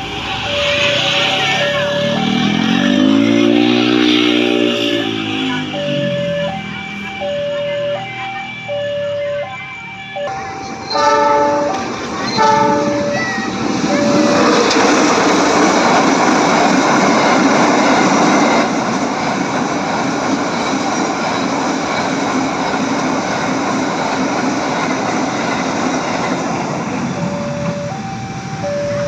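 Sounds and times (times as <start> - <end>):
bus driving past: 0.0 - 21.3, 25.3 - 29.0.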